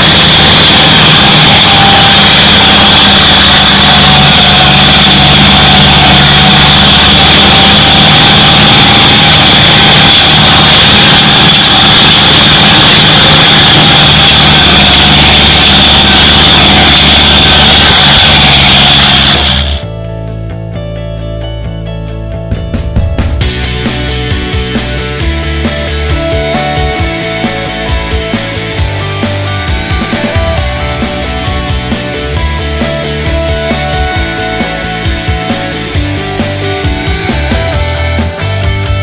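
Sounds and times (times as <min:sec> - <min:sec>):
steady high whine: 0:00.0 - 0:19.8, 0:23.2 - 0:39.0
tractor diesel engine running: 0:00.0 - 0:19.8, 0:23.4 - 0:39.0.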